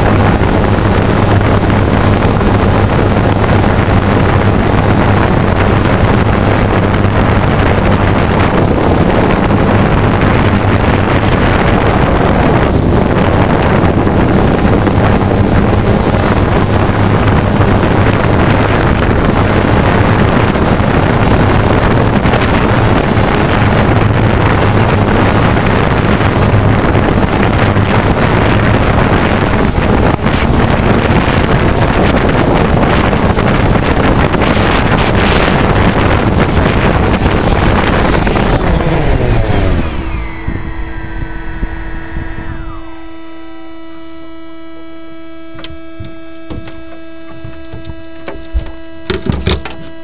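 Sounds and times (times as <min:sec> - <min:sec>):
drone propellers running: 0:00.0 - 0:50.0
motors spinning down whine: 0:00.0 - 0:50.0
rotor wash buffeting microphone: 0:00.0 - 0:50.0
steady electronic hum: 0:00.0 - 0:50.0.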